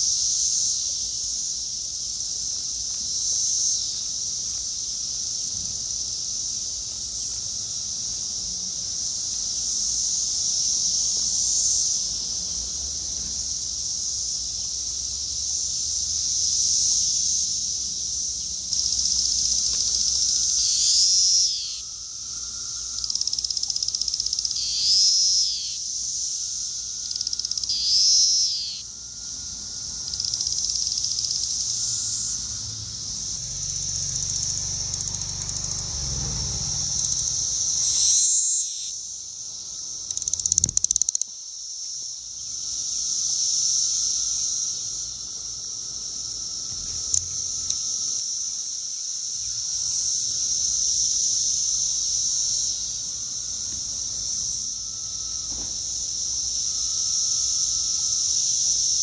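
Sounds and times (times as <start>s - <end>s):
cicadas chorusing drone: 0.0s - 59.0s.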